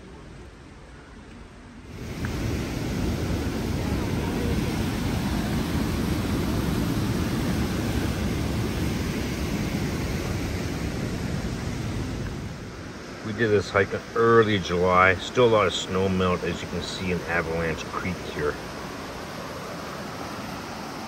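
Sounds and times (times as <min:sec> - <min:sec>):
mountain creek rushing: 0:01.9 - 0:21.0.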